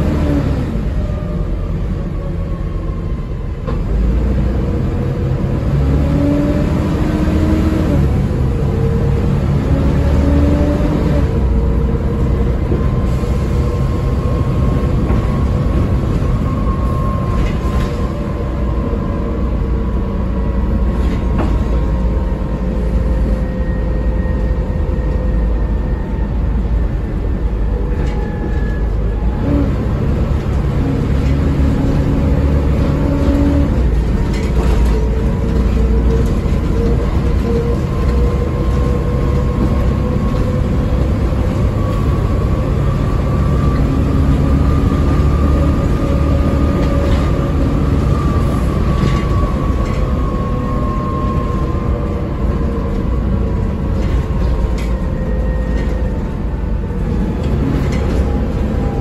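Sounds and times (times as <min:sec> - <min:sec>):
bus diesel engine rumble: 0:00.0 - 0:59.0
road noise: 0:00.0 - 0:59.0.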